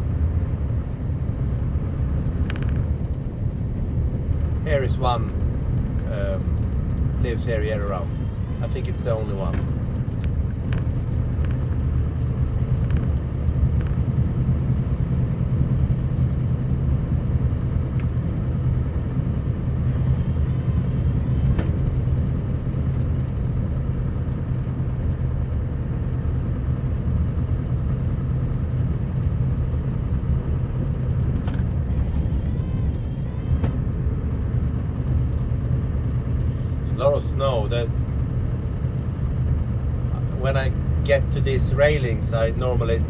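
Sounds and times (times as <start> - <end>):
diesel engine droning: 0.0 - 43.0.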